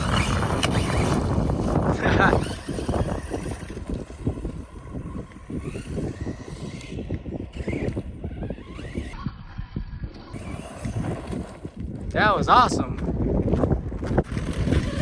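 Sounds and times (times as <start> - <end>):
rc truck motor whine: 0.0 - 11.8, 14.0 - 15.0
wind buffeting microphone: 0.0 - 15.0.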